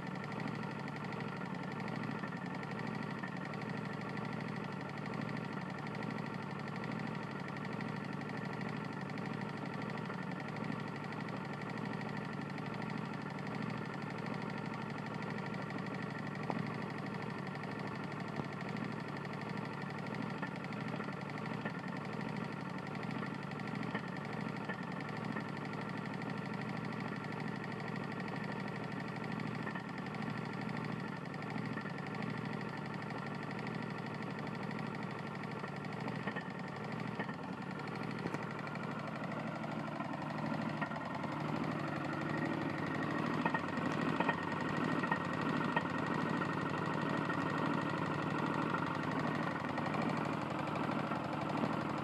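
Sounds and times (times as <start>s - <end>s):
lawn mower engine running: 0.0s - 52.0s
rapid engine knock: 0.0s - 52.0s.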